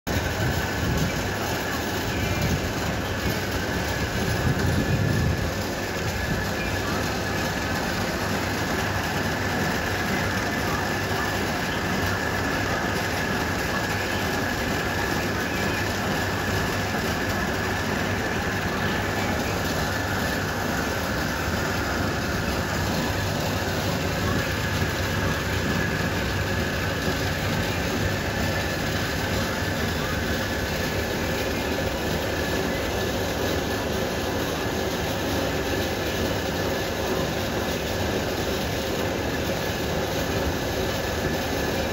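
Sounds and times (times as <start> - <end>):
wet grinder running: 0.1 - 41.9.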